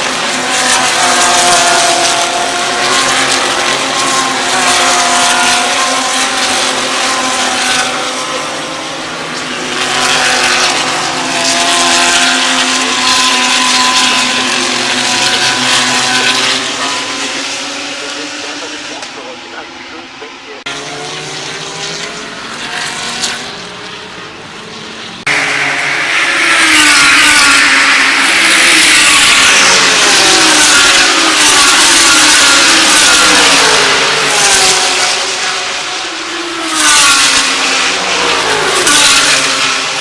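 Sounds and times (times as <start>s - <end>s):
race car engines passing by: 0.0s - 40.0s.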